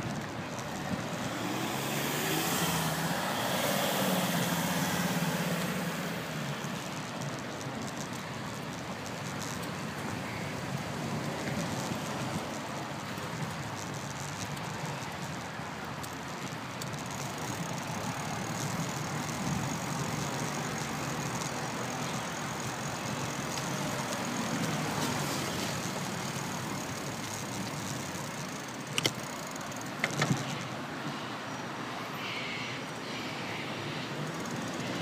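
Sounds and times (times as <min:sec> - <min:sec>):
bicycle road noise: 0:00.0 - 0:35.0
cars passing: 0:00.0 - 0:35.0.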